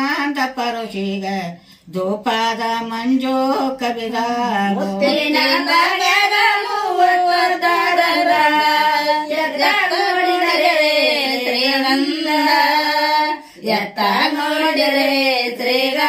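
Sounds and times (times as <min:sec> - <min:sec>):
women singing unaccompanied: 0:00.0 - 0:16.0.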